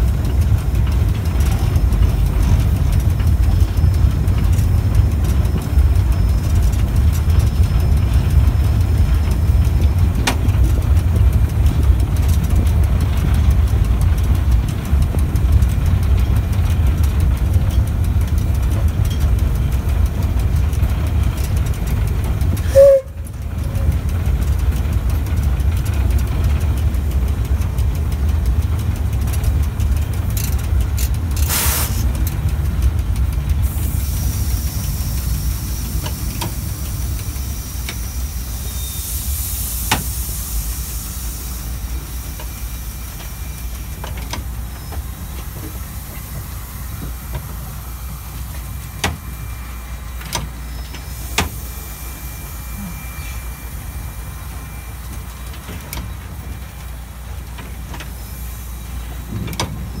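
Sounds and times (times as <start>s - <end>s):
locomotive low rumble: 0.0s - 60.0s
loud steam hissing: 0.0s - 60.0s.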